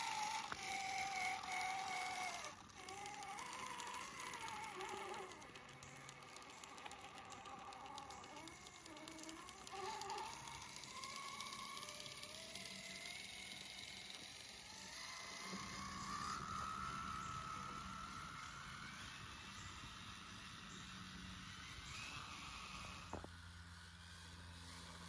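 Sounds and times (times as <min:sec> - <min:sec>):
toy truck motor whining: 0:00.0 - 0:25.0.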